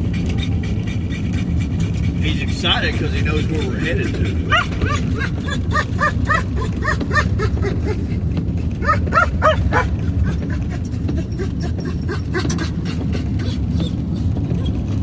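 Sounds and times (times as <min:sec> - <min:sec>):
dog yelping: 0:00.0 - 0:02.2, 0:02.8 - 0:14.9
vehicle rumble: 0:00.0 - 0:15.0.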